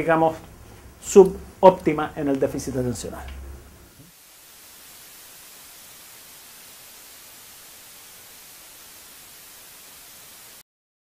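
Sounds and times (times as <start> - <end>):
television static hiss: 0.0 - 10.6.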